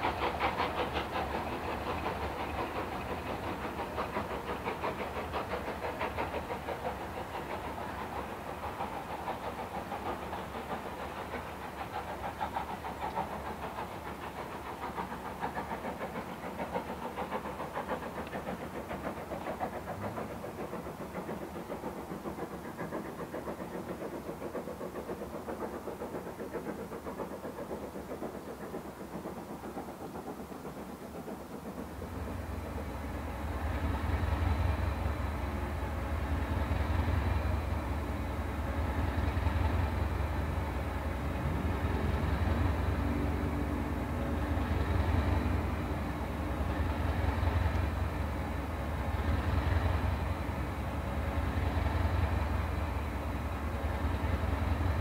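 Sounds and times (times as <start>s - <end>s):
diesel locomotive engine working: 0.0s - 55.0s.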